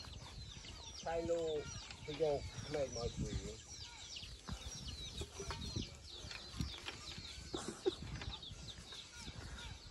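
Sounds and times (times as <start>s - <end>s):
birds chirping: 0.0s - 9.9s.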